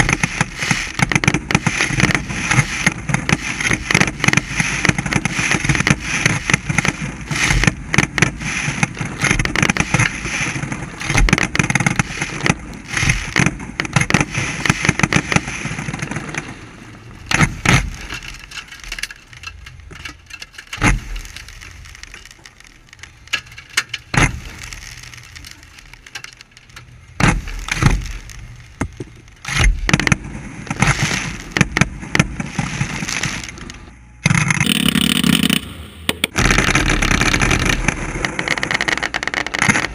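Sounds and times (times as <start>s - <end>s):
fireworks cracking and banging: 0.0s - 39.9s.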